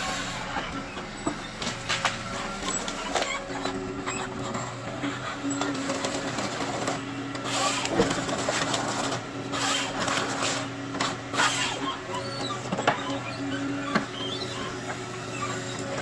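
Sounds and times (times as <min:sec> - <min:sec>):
harvester engine hum: 0:00.0 - 0:16.0.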